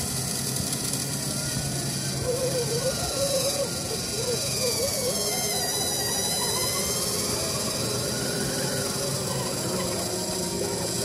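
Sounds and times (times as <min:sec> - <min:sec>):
electric winch motor whining: 0:00.0 - 0:11.0.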